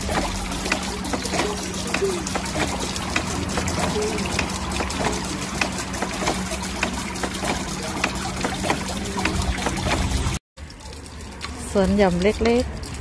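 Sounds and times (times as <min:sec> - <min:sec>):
fountain water splashing into pond: 0:00.0 - 0:13.0.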